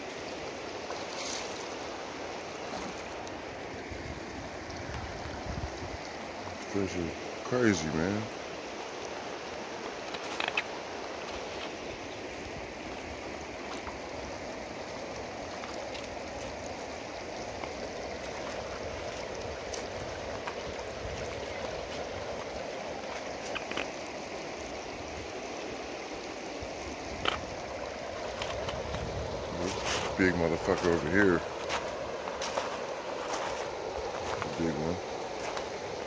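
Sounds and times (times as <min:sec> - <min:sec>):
river water rippling over pebbles: 0:00.0 - 0:36.0.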